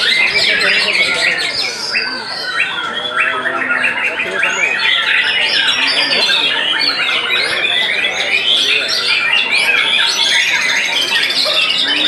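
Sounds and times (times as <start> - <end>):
birds singing whistles and trills: 0.0 - 12.0.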